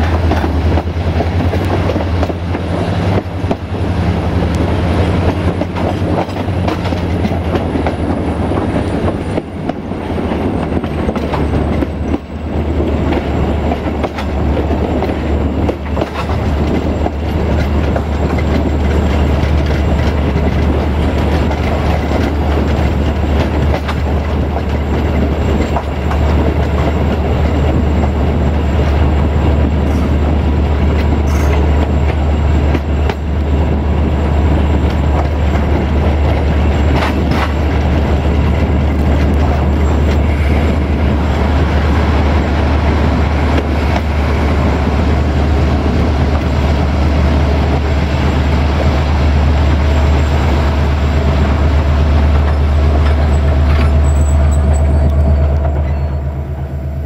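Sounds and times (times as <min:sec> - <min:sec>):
sharp clicks of train wheels: 0:00.0 - 0:56.0
train wheels rumbling on rails: 0:00.0 - 0:57.0.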